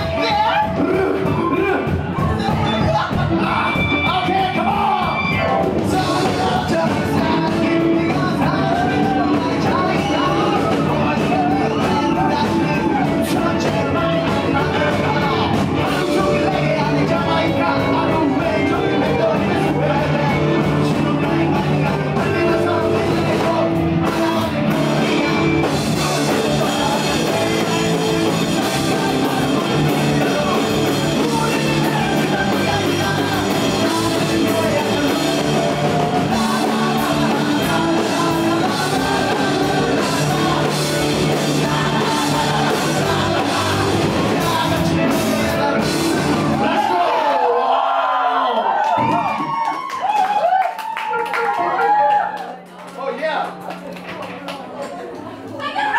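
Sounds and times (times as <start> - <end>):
distorted electric guitars: 0.0 - 47.2
person singing: 0.0 - 47.2
bass guitar: 0.0 - 47.4
drums: 0.0 - 47.5, 48.7 - 55.9.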